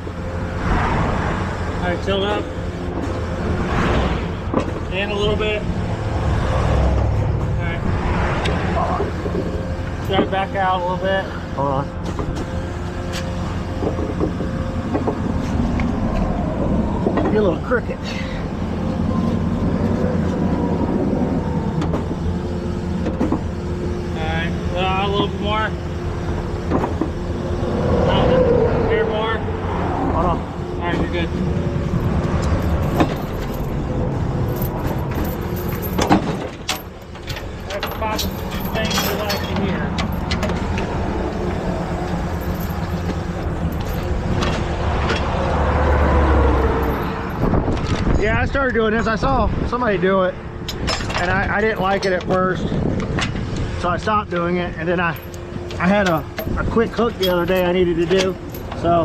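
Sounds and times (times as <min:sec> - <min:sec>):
heavy truck engine rumbling: 0:00.0 - 0:59.0.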